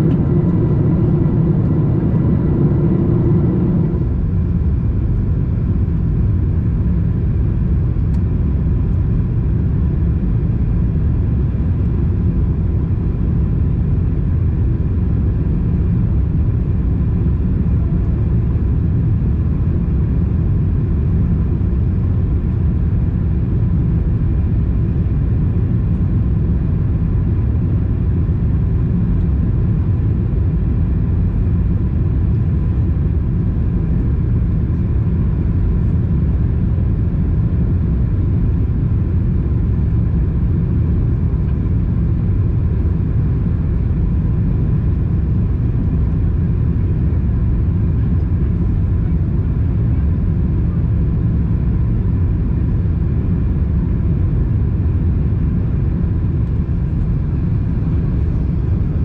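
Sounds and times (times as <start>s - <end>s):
airliner cabin engine rumble: 0.0s - 59.0s
faint steady hum: 0.0s - 59.0s.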